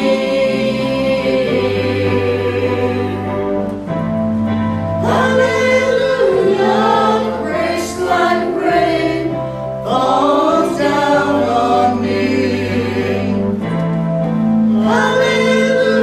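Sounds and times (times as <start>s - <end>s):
group singing a worship song: 0.0s - 16.0s
sustained instrumental accompaniment: 0.0s - 16.0s.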